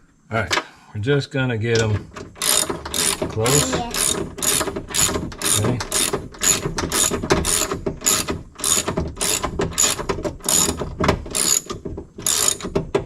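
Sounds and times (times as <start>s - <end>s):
hand ratchet clicking: 1.8s - 12.8s.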